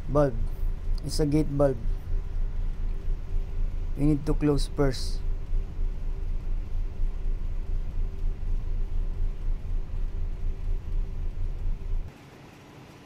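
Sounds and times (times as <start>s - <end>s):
ship diesel engine idling: 0.0s - 12.1s.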